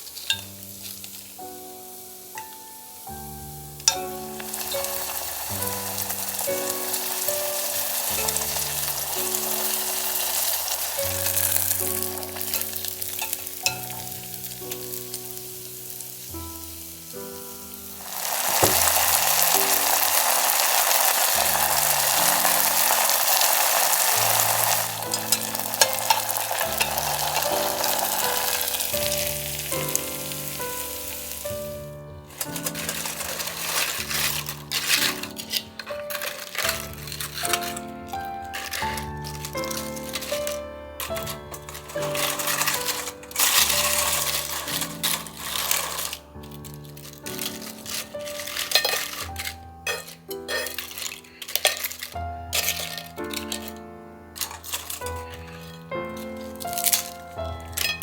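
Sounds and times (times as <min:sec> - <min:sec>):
food deep-frying in hot oil: 0:00.0 - 0:53.8, 0:54.4 - 0:58.0.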